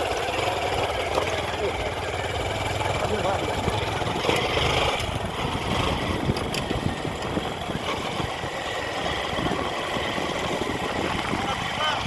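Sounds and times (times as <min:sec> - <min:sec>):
dense noisy rumble: 0:00.0 - 0:12.0
vehicle engine running: 0:00.0 - 0:12.0.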